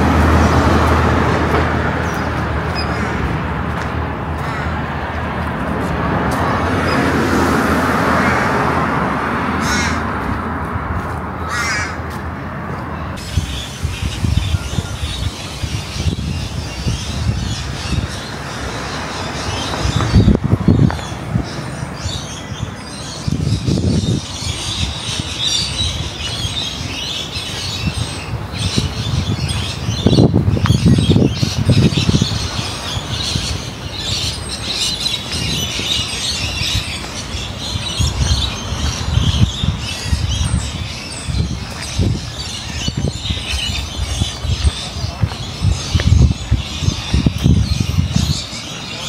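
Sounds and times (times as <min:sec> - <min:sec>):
birds chirping: 0:00.0 - 0:10.4, 0:11.0 - 0:49.0.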